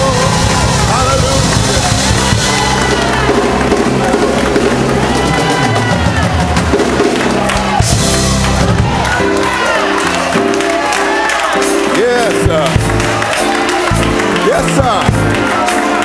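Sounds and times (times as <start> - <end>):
sustained bass chords: 0.0 - 9.3, 11.8 - 15.5
band playing loud music: 0.0 - 16.0
drum kit: 0.0 - 16.0.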